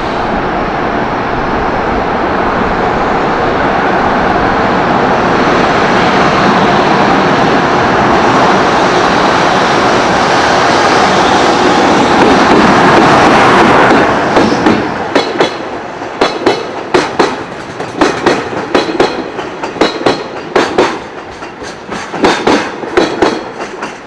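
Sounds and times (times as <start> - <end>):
approaching train rumble: 0.0 - 24.0.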